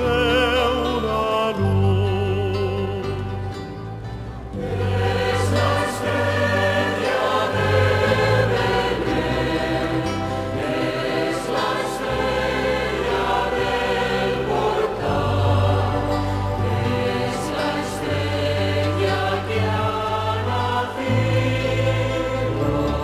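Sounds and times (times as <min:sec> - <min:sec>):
choir singing a slow hymn: 0:00.0 - 0:23.0.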